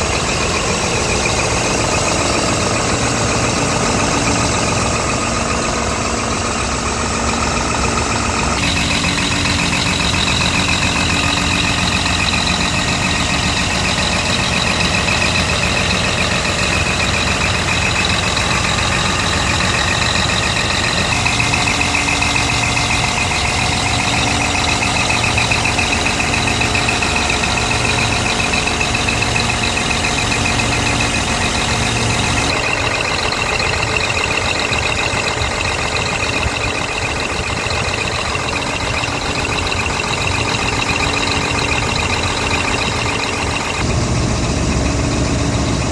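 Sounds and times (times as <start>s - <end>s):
diesel truck engine running: 0.0s - 45.9s
high whine: 7.3s - 34.7s, 36.4s - 45.9s.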